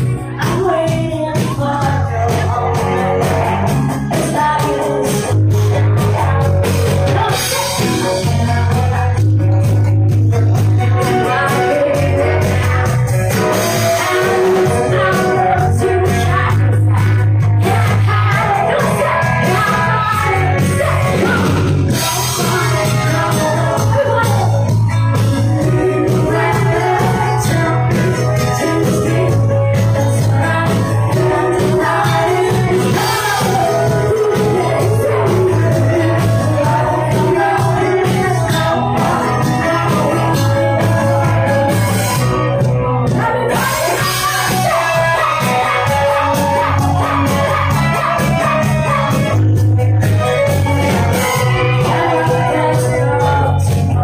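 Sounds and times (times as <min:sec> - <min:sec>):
woman singing: 0:00.0 - 0:10.0, 0:10.7 - 0:24.7, 0:25.5 - 0:41.8, 0:43.1 - 0:49.4, 0:50.0 - 0:54.0
live rock band playing: 0:00.0 - 0:54.0.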